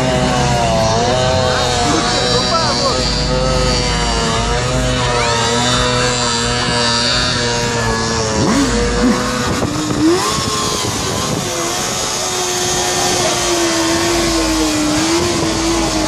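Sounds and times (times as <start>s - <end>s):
engine revving high: 0.0s - 16.0s.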